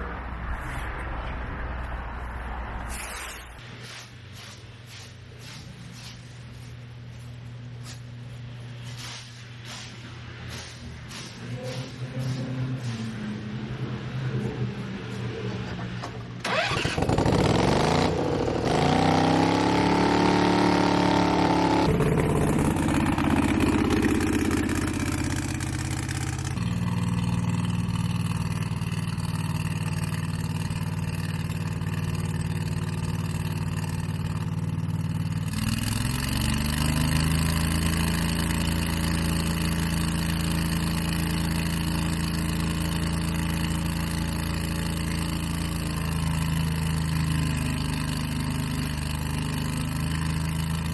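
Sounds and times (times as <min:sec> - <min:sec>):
gas engine revving: 0:02.8 - 0:50.9.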